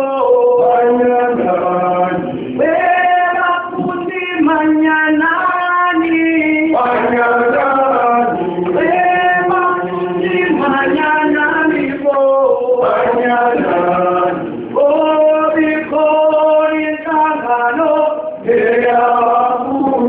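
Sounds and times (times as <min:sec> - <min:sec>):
mixed voices singing in harmony: 0:00.0 - 0:20.0.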